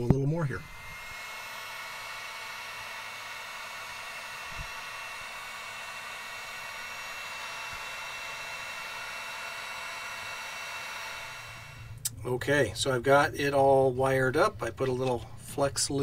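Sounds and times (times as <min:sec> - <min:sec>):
heat gun fan whining: 0:00.0 - 0:16.0.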